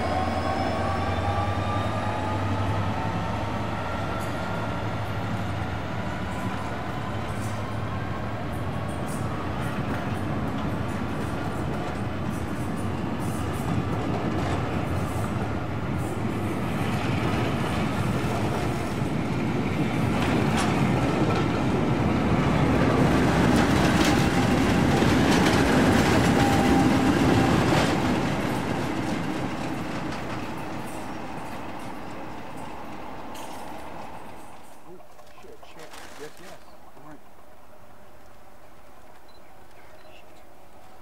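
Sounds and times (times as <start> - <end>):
diesel train rumbling past: 0.0 - 35.8.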